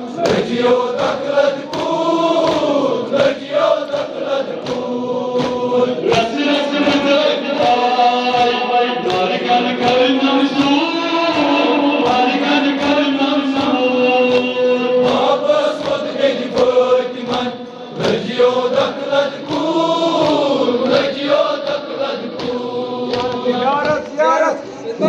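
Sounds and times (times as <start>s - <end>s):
men chanting a lament: 0.0s - 25.0s
rhythmic chest-beating: 0.0s - 25.0s.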